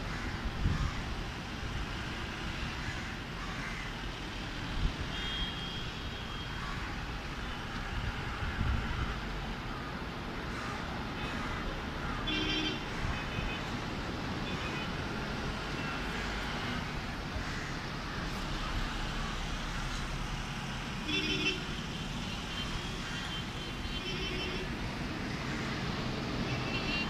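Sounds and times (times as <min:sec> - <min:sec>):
road traffic noise: 0:00.0 - 0:27.0.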